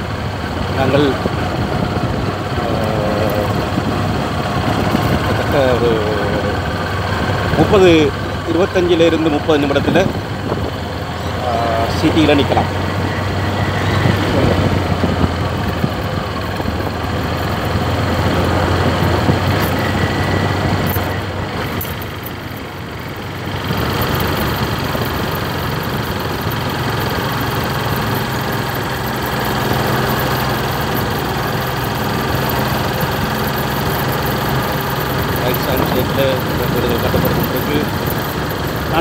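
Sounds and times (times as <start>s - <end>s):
motorcycle engine running: 0.0s - 39.0s
wind and road noise: 0.0s - 39.0s.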